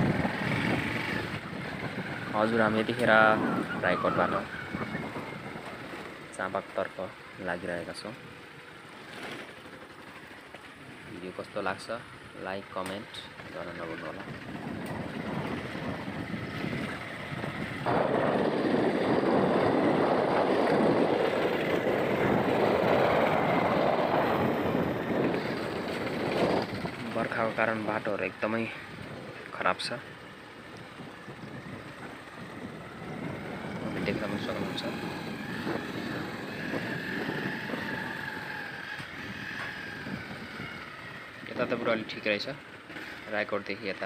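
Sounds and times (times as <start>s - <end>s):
motorbike running: 0.0s - 44.0s.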